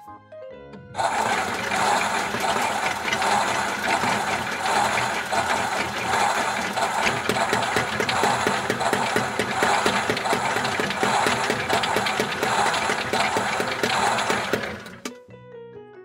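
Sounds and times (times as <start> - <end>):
regular clicks: 1.0 - 15.2
toy washing machine whirring: 1.0 - 15.2.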